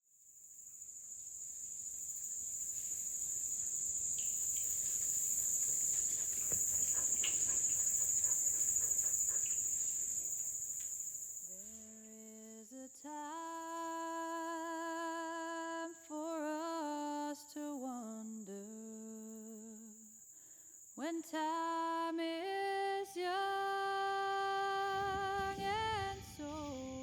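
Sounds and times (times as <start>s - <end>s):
night insects chorus: 0.2s - 27.0s.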